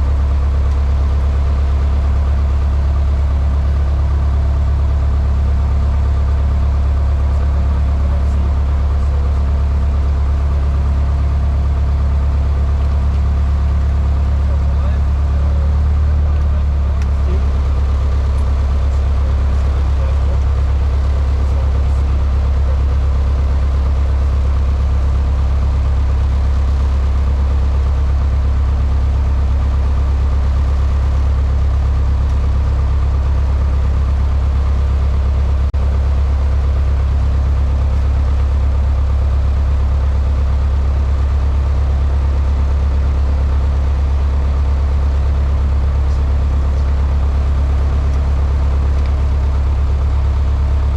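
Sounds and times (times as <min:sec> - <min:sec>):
airplane engine drone in cabin: 0:00.0 - 0:50.9.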